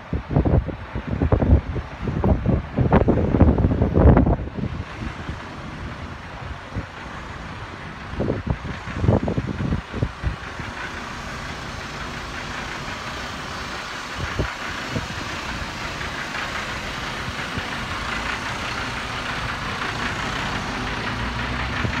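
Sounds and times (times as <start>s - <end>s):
diesel truck engine idling: 0.0s - 22.0s
outdoor noise hiss: 4.0s - 22.0s.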